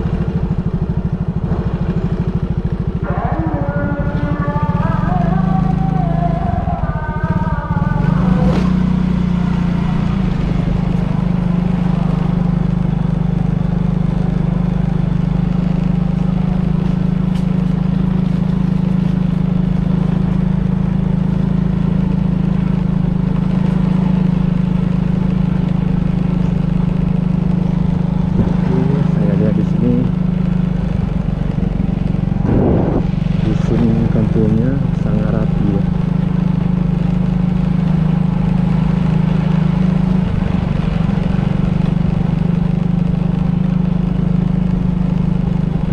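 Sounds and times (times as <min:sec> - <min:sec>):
motorcycle engine running: 0:00.0 - 0:45.9
road noise: 0:00.0 - 0:45.9.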